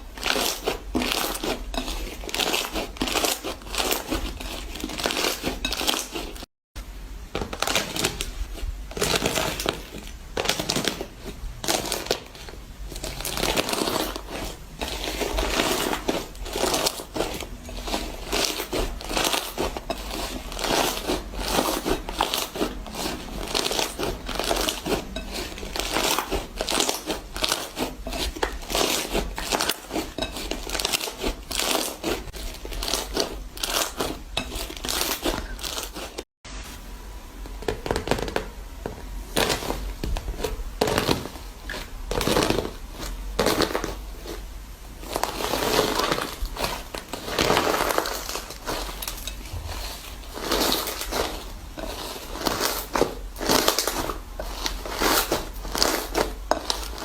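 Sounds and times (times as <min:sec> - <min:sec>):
crunchy material being crushed: 0:00.0 - 0:06.5, 0:07.2 - 0:36.2, 0:37.5 - 0:57.0.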